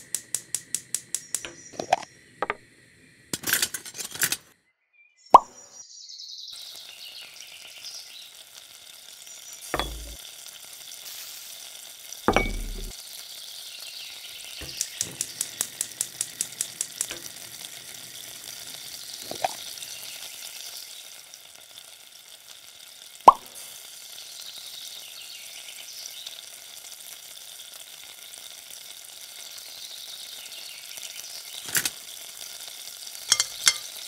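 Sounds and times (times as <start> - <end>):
butter sizzling in frying pan: 6.5 - 34.0.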